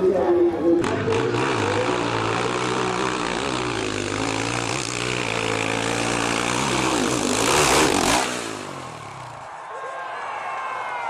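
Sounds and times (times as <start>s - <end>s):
motorcycle engine running: 0.8s - 9.7s.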